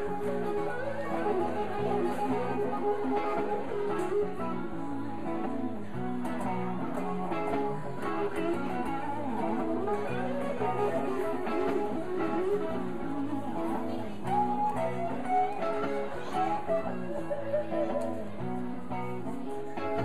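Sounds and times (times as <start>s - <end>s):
electric guitar playing: 0.0s - 20.0s.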